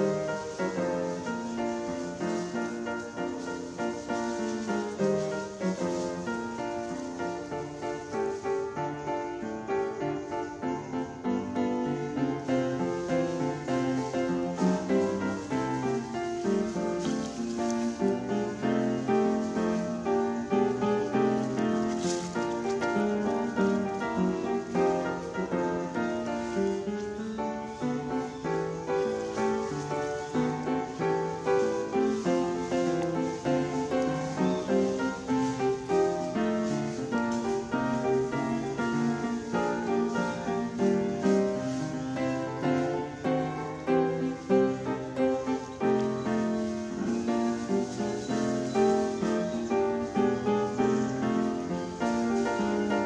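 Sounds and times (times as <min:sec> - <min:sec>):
keyboard melody: 0:00.0 - 0:53.0
piano music: 0:00.0 - 0:53.0.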